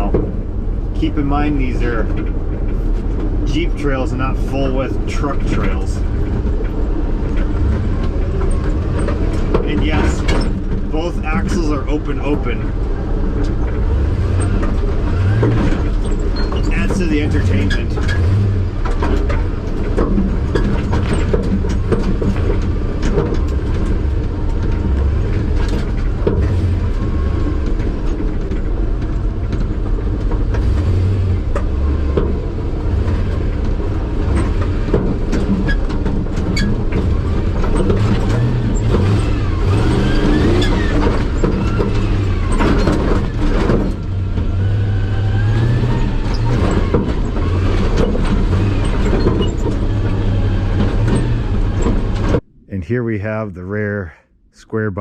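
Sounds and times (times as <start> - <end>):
truck engine revving: 0.0 - 52.4
knocks and rattles: 0.0 - 52.5.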